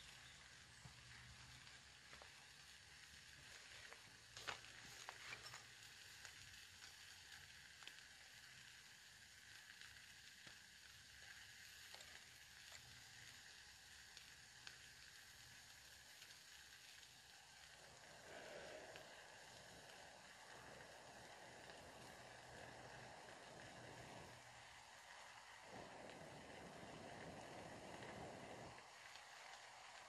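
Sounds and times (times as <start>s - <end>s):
fire crackles: 0.0s - 30.0s
frying pan sizzling: 0.0s - 30.0s
air blown into fire: 1.1s - 30.0s.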